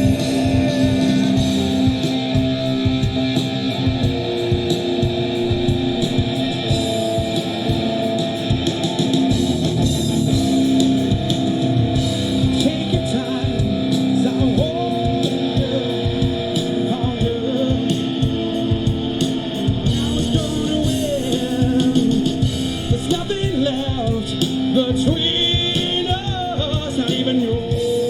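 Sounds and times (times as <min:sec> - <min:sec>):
drums: 0:00.0 - 0:28.0
electric guitar: 0:00.0 - 0:28.0.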